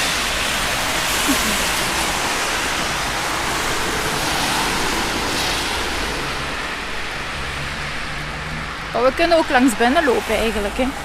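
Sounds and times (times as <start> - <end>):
low engine hum: 0.0 - 11.0
tyres hissing on wet road: 0.0 - 11.0.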